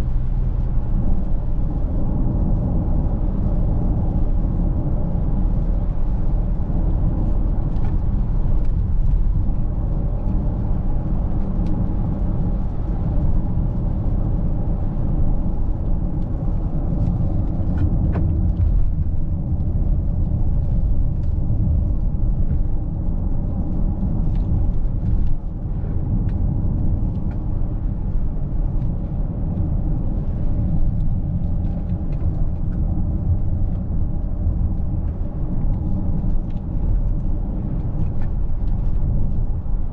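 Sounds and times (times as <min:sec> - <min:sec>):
car cabin rumble: 0:00.0 - 0:39.9.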